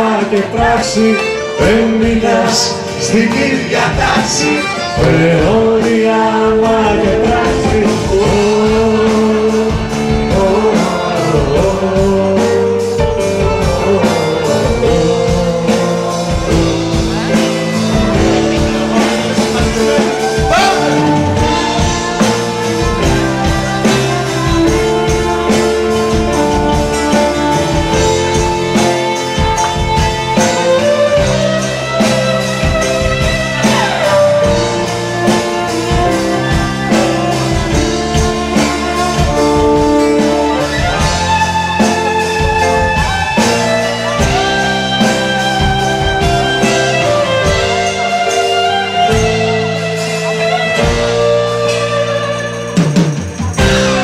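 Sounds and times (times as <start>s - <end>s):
folk-rock band playing: 0.0s - 54.0s
violin melody: 0.0s - 54.0s.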